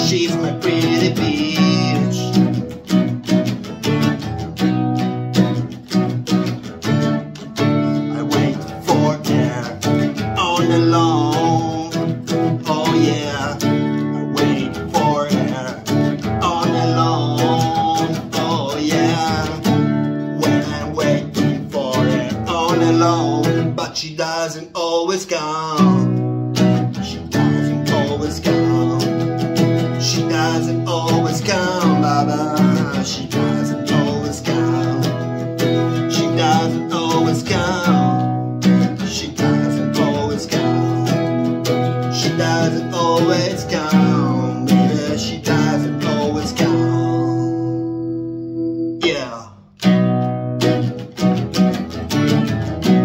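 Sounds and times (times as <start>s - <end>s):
man singing: 0.0s - 2.8s, 7.5s - 48.2s, 49.0s - 49.7s
strummed acoustic guitar: 0.0s - 53.0s.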